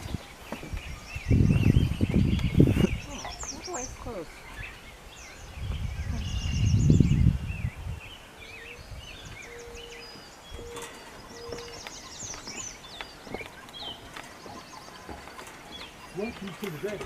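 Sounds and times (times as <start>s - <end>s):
songbirds chirping and trilling: 0.0s - 17.0s
wind buffeting microphone: 0.0s - 17.0s.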